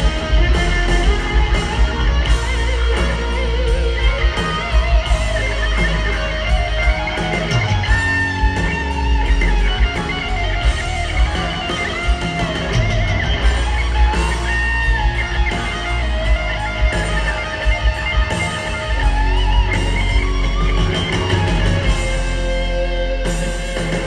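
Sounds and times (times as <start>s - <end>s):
electric guitar lead: 0.0s - 24.0s
heavy metal band playing: 0.0s - 24.0s.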